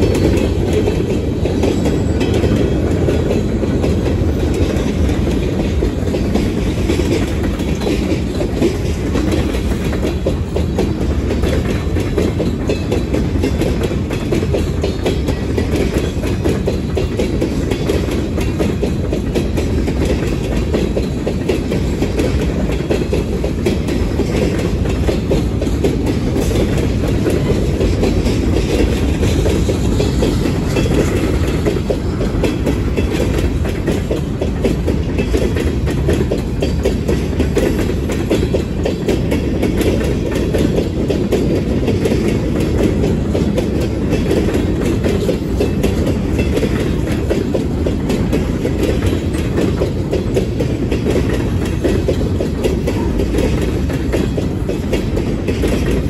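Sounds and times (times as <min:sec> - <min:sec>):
train wheels rumbling on rails: 0:00.0 - 0:56.0
wheels clicking over rail joints: 0:00.0 - 0:56.0.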